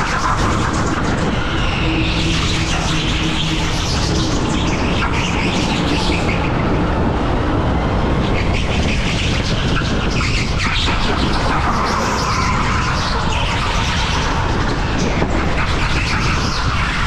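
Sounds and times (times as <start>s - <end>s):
tyre and wind noise: 0.0s - 17.0s.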